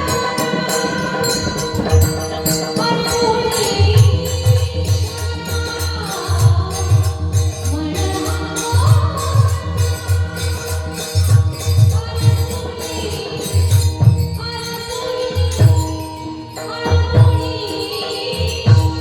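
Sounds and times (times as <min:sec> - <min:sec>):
jingling cymbal percussion: 0:00.0 - 0:19.0
woman singing devotional song: 0:00.0 - 0:19.0.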